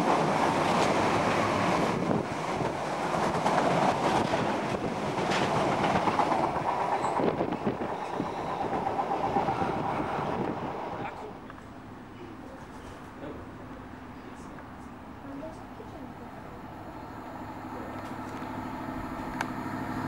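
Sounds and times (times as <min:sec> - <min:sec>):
freight train rumbling past: 0:00.0 - 0:12.2, 0:13.0 - 0:20.0.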